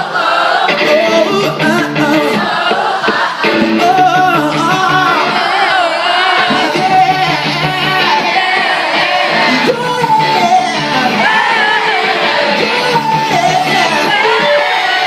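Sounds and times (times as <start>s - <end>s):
live pop-rock band: 0.0s - 15.0s
person singing: 0.0s - 15.0s.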